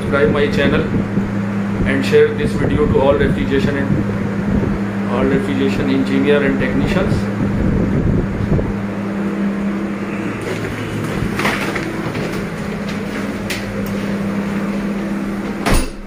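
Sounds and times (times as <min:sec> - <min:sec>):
evaporator fan humming: 0:00.0 - 0:16.0.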